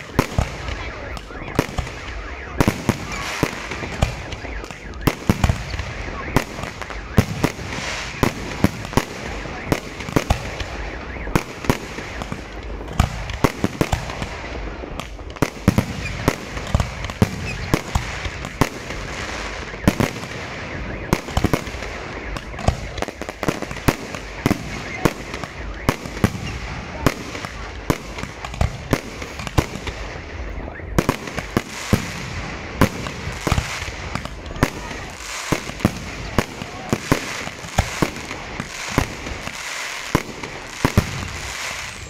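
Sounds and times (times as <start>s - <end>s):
fireworks bursting: 0.0s - 42.0s
steady background noise: 0.0s - 42.0s.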